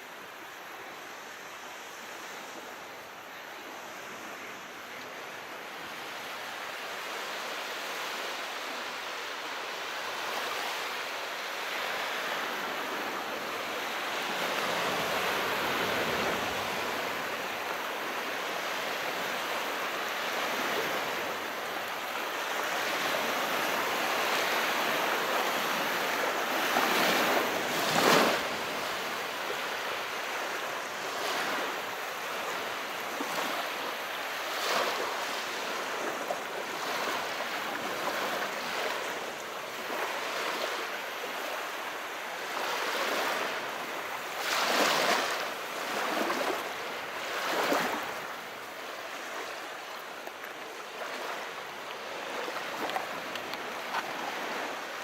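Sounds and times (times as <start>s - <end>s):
calm sea waves: 0.0s - 55.0s.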